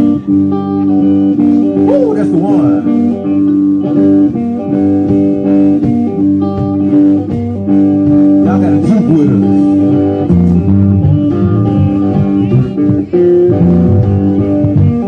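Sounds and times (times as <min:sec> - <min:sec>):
lead guitar bending pitch: 0:00.0 - 0:15.0
live blues band playing: 0:00.0 - 0:15.0.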